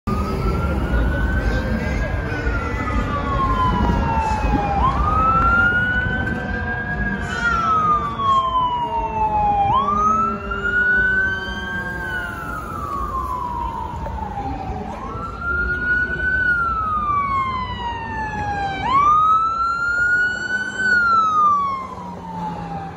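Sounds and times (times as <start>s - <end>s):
fire engine siren wailing: 0.1s - 22.9s
traffic rumble: 0.1s - 22.9s.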